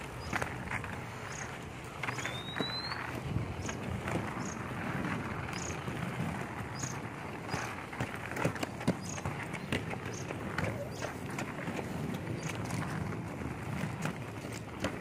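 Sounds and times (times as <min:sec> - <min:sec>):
inline skates rolling on pavement: 0:00.0 - 0:15.0
skate stride clicks: 0:00.0 - 0:15.0.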